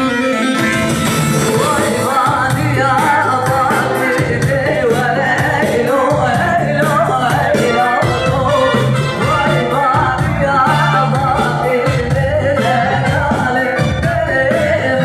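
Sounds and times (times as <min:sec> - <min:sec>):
amplified backing music: 0:00.0 - 0:15.0.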